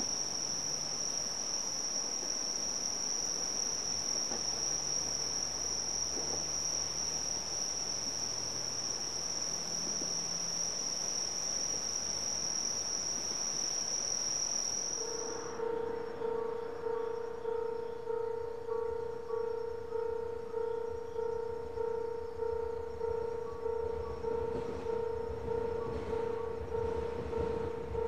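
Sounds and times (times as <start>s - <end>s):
crickets trilling: 0.0s - 28.0s.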